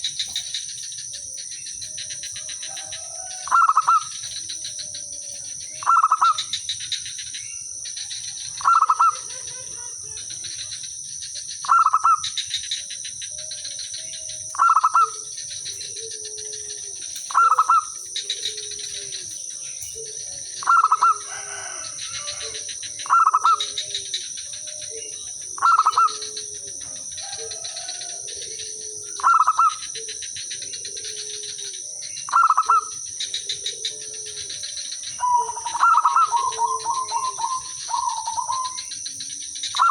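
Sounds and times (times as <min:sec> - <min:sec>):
dove cooing loudly: 0:00.0 - 0:06.7, 0:08.0 - 0:10.6, 0:11.6 - 0:39.0, 0:39.7 - 0:39.9
high insect drone: 0:00.0 - 0:39.9
quieter lower dove cooing: 0:00.0 - 0:39.9.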